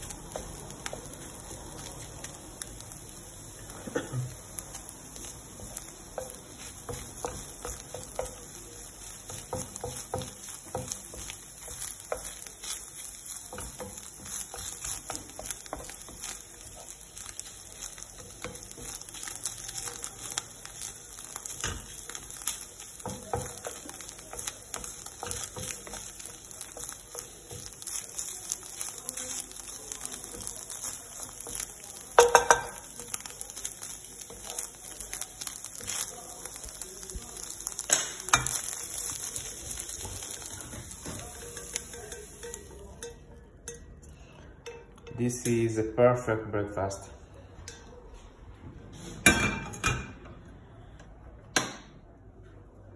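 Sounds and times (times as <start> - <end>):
faint sizzle: 0.0 - 48.2.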